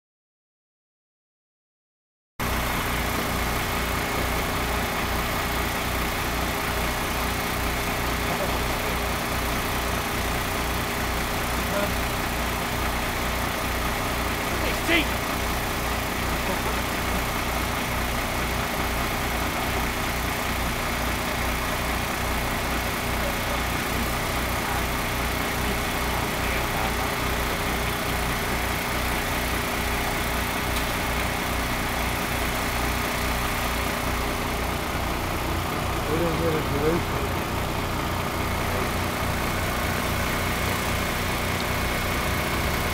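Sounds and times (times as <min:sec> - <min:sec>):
fire truck engine idling: 0:02.4 - 0:42.9.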